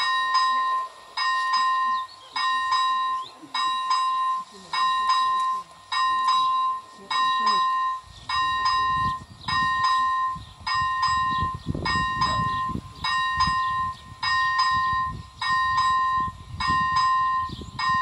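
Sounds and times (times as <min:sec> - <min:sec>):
level-crossing warning bell ringing: 0:00.0 - 0:18.0.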